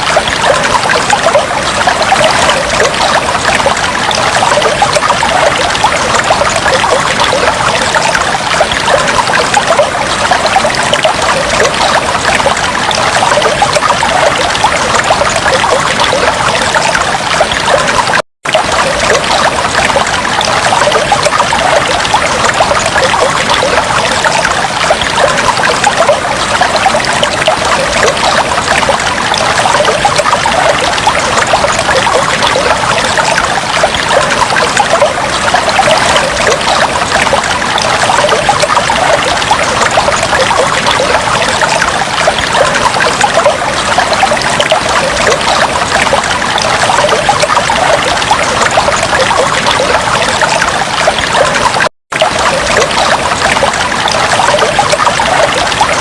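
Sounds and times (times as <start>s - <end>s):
fish tank water bubbling: 0.0s - 56.0s.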